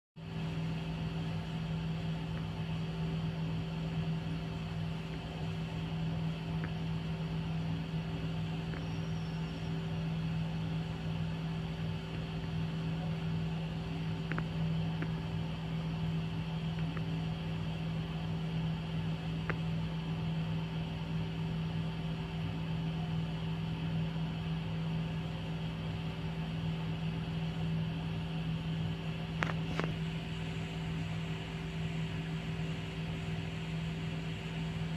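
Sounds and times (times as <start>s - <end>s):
mechanical hum: 0.2s - 34.9s.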